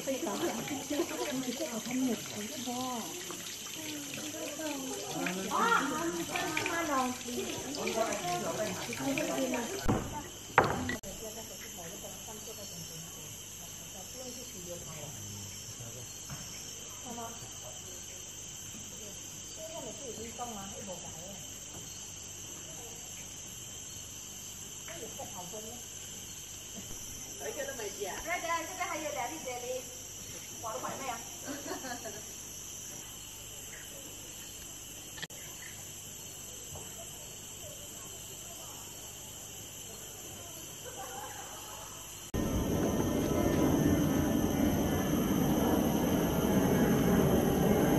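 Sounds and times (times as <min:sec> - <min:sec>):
insects shrilling: 0:00.0 - 0:47.9.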